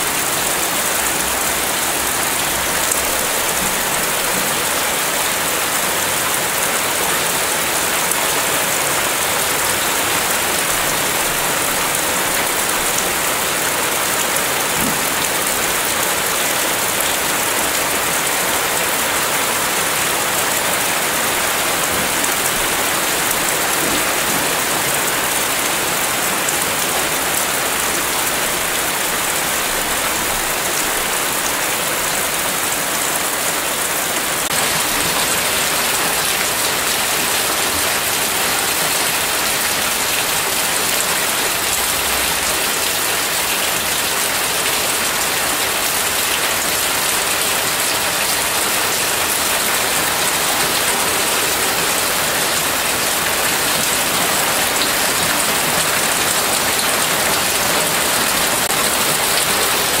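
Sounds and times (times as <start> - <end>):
heavy rain on a roof: 0.0 - 60.0
rain splashing into puddles: 0.0 - 60.0.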